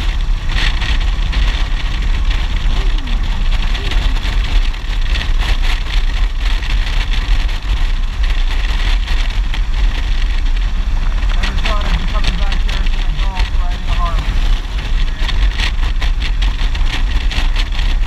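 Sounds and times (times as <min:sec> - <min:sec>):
motorcycle engine cruising: 0:00.0 - 0:18.0
wind buffeting microphone: 0:00.0 - 0:18.0.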